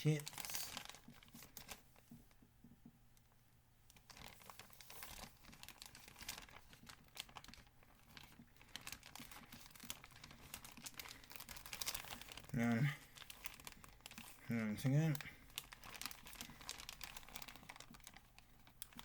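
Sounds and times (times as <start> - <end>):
packaging rustling and tearing: 0.0 - 1.9, 3.9 - 19.0.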